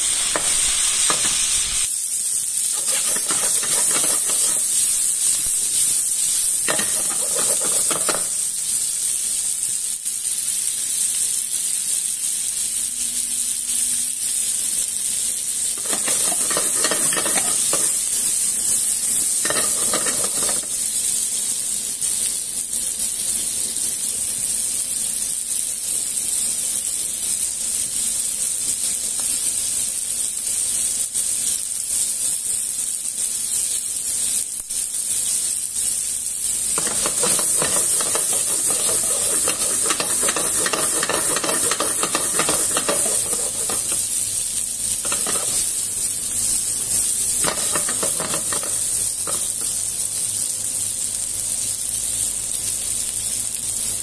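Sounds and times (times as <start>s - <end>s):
meat sizzling in frying pan: 0.0s - 54.0s.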